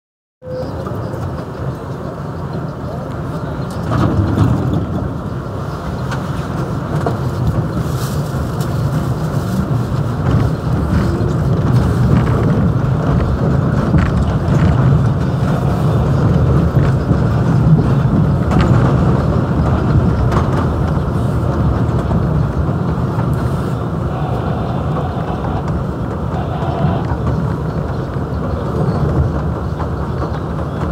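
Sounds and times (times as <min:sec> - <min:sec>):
faint rail clicks: 0:00.4 - 0:30.9
subway train wheels rumbling: 0:00.4 - 0:30.9.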